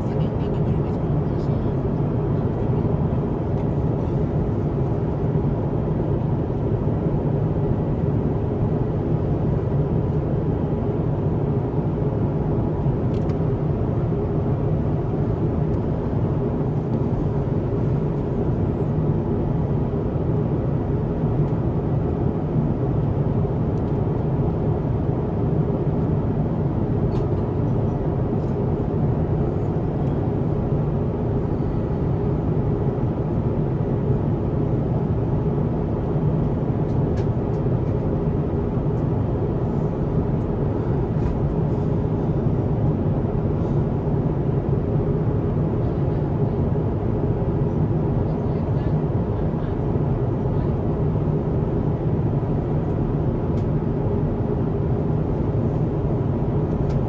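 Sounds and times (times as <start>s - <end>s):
airplane cabin engine and airflow rush: 0.0s - 57.0s.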